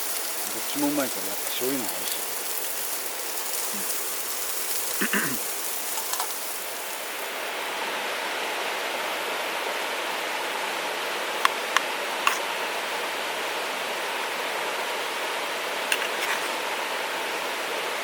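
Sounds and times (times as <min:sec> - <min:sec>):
steady hissing noise: 0:00.0 - 0:18.0.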